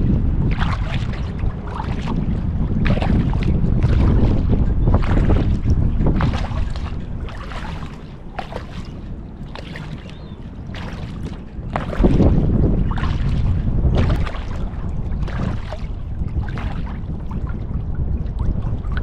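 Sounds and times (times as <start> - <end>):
paddle splashing in water: 0.0 - 19.0
wind buffeting microphone: 0.0 - 19.0.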